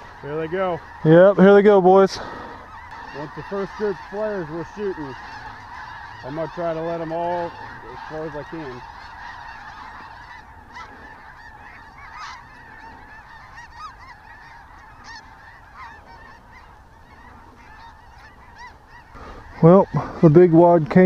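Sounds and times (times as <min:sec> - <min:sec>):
flock of geese honking: 0:00.0 - 0:21.0.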